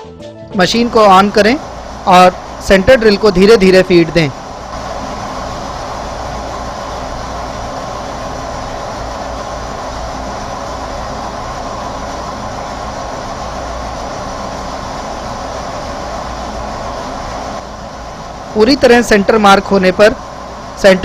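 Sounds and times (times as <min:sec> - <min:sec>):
lathe running: 0:00.7 - 0:21.0.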